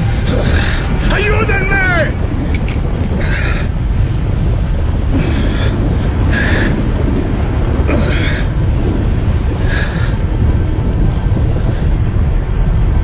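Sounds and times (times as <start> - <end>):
flames roaring: 0.0 - 13.0.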